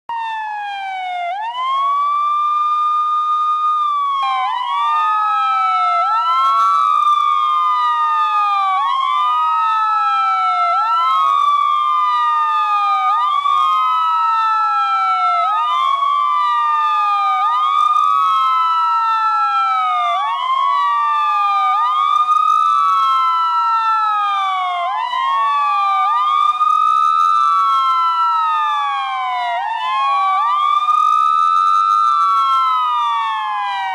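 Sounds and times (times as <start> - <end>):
police siren wailing: 0.1 - 33.9.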